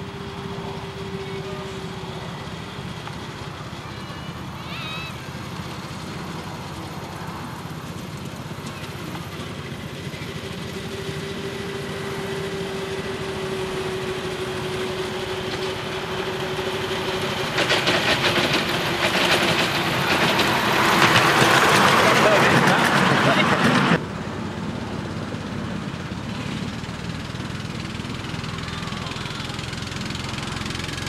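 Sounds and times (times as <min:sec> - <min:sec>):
small locomotive mechanical drone: 0:00.0 - 0:31.0
wheels clattering on track: 0:00.0 - 0:31.0.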